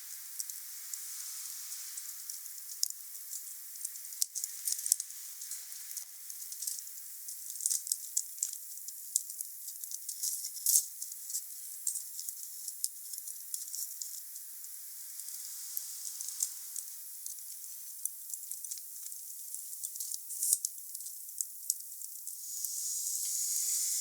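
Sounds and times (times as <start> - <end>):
steady fire hiss: 0.0 - 24.0
fire crackles and pops: 0.2 - 23.8.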